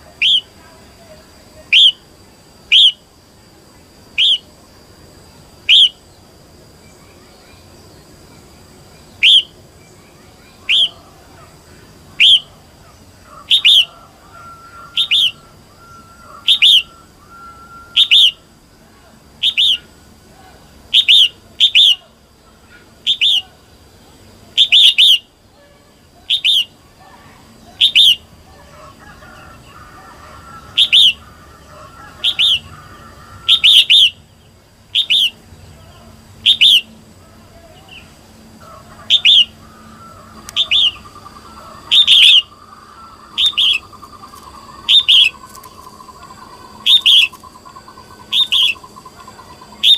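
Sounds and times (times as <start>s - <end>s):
bulbul sharp calls: 0.0s - 3.1s, 4.1s - 4.8s, 5.6s - 6.1s, 8.9s - 49.9s
faint bird chirps: 0.0s - 3.1s, 3.7s - 49.9s.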